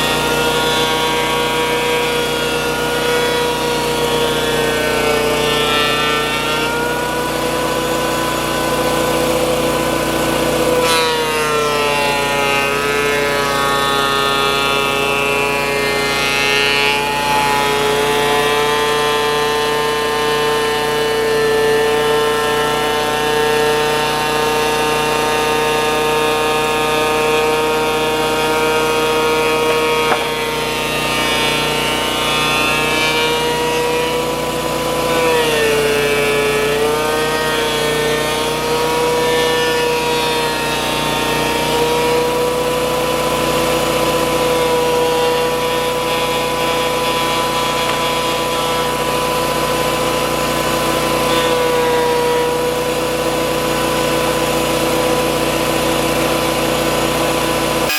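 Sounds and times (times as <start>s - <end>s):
thickness planer high whine: 0.0s - 57.9s.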